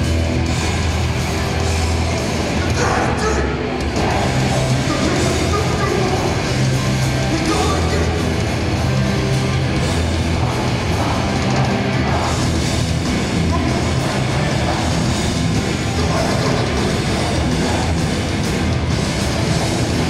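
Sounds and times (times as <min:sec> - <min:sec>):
bass guitar: 0:00.0 - 0:20.0
distorted electric guitars: 0:00.0 - 0:20.0
drums: 0:00.0 - 0:20.0.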